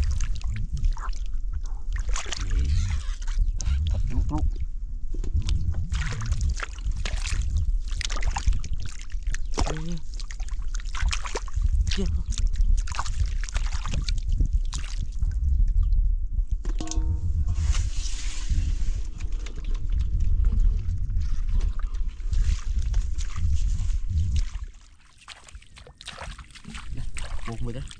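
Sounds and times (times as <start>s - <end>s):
water sloshing and splashing: 0.0s - 4.6s, 5.2s - 15.2s, 19.0s - 27.9s
steady low rumble: 0.0s - 24.8s.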